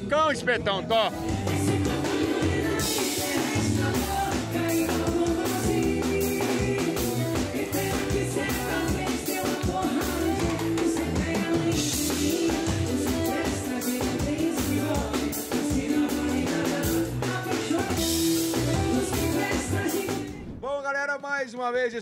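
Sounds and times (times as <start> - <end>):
upbeat band music: 0.0 - 20.4
person singing: 1.1 - 20.5.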